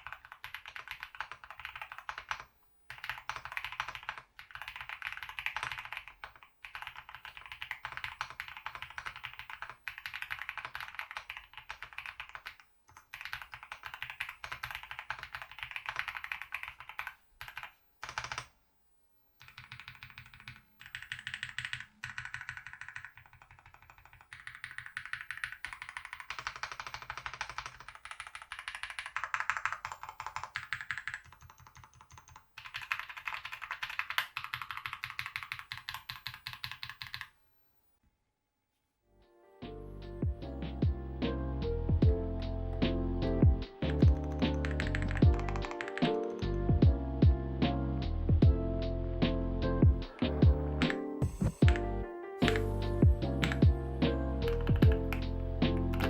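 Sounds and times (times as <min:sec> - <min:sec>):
fast mechanical keyboard typing: 0:00.0 - 0:18.5, 0:19.4 - 0:37.3, 0:43.8 - 0:46.6, 0:50.1 - 0:56.0.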